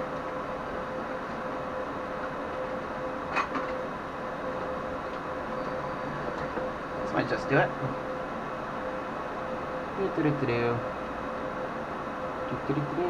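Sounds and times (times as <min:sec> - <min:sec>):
steady mechanical hum and hiss: 0:00.0 - 0:13.0.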